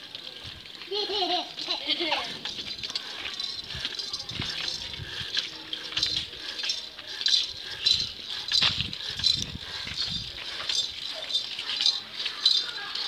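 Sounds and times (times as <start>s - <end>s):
child's bicycle rattling on pavement: 0.0s - 13.0s.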